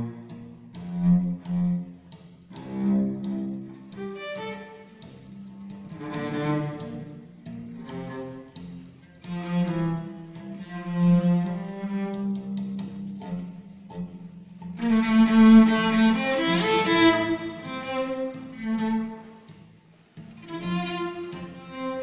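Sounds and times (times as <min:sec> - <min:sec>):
bowed cello melody: 0:00.0 - 0:22.0.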